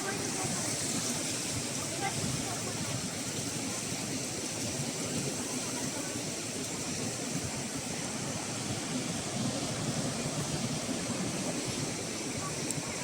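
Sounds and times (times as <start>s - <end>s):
sea surf breaking on shore: 0.0s - 13.0s.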